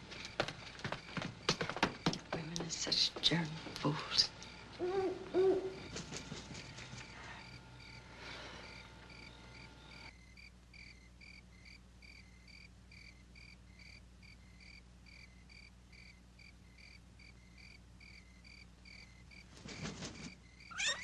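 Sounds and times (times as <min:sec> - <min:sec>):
low steady hum: 0:00.0 - 0:20.8
crickets chirping: 0:00.0 - 0:21.0.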